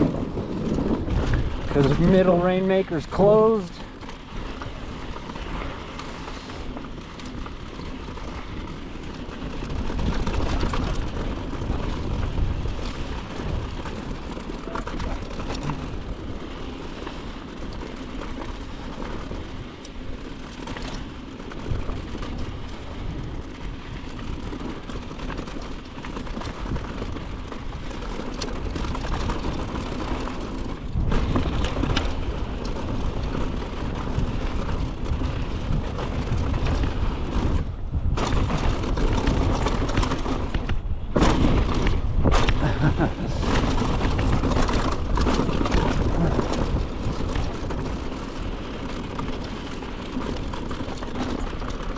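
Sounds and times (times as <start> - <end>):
bike rattles and knocks: 0.0 - 51.9
tyres running on dirt: 0.0 - 51.9
wind rushing over microphone: 0.0 - 51.9.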